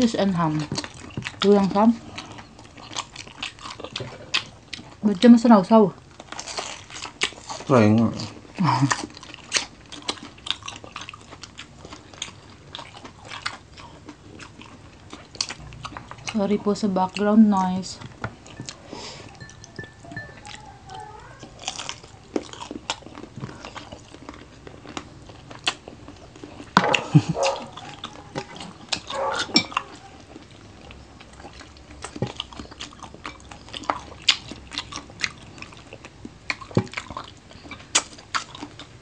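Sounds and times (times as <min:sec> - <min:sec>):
crunchy chewing and mouth smacks: 0:00.4 - 0:05.1, 0:06.0 - 0:16.4, 0:18.0 - 0:39.0.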